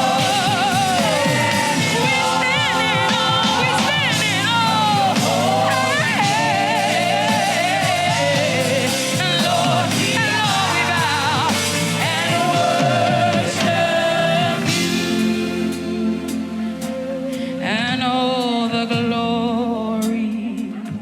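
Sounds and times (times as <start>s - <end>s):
band with bass and keyboard: 0.0s - 21.0s
person singing gospel: 0.0s - 21.0s.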